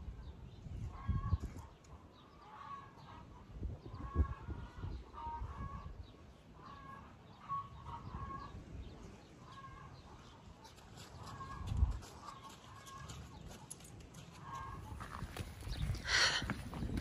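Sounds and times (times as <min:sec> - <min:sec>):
chickens clucking: 0:00.8 - 0:08.8, 0:09.4 - 0:16.9.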